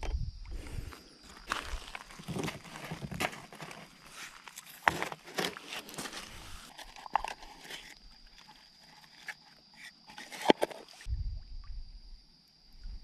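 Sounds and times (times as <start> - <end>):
hands handling stone on gravel: 0.0 - 10.9.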